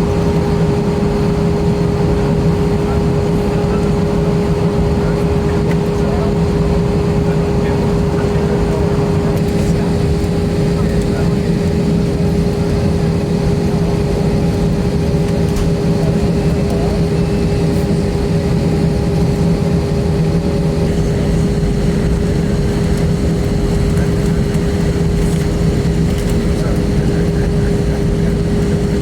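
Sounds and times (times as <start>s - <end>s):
airplane engine hum: 0.0s - 29.0s.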